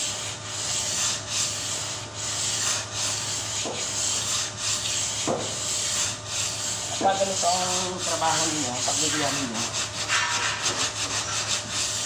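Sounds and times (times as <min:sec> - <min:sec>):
sandpaper rubbing over filler: 0:00.0 - 0:12.0.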